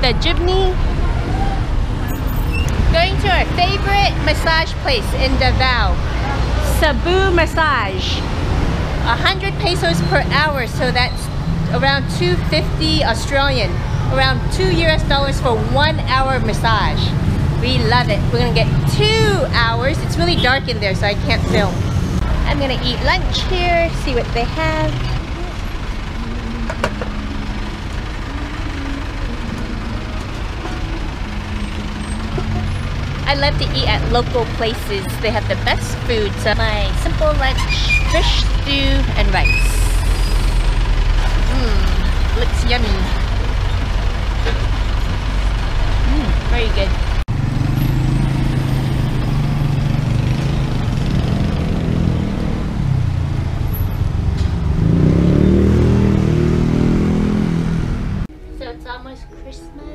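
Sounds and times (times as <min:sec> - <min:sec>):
vehicle engine idling: 0:00.0 - 0:54.9
street traffic: 0:00.0 - 0:59.9.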